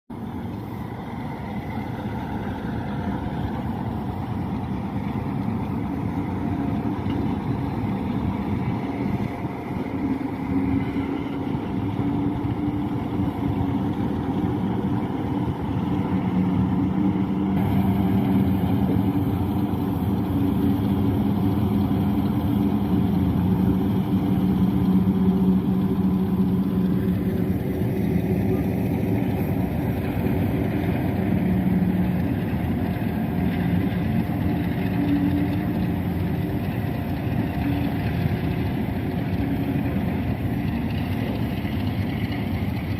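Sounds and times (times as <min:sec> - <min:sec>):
diesel locomotive engine running: 0:00.1 - 0:42.9.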